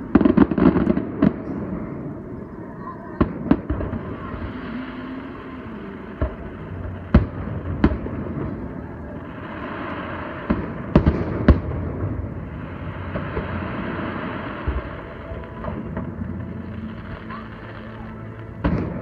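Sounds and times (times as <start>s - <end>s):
background hiss: 0.0s - 19.0s
fireworks bangs: 0.0s - 19.0s.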